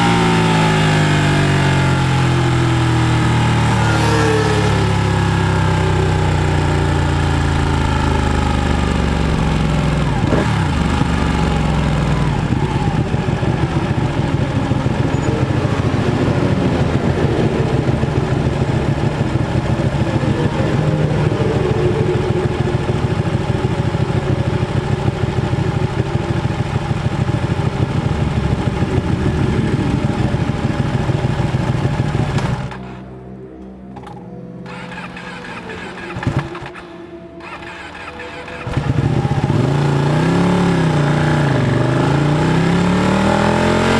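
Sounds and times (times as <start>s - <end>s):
motorcycle engine slowing and idling: 0.0s - 43.9s.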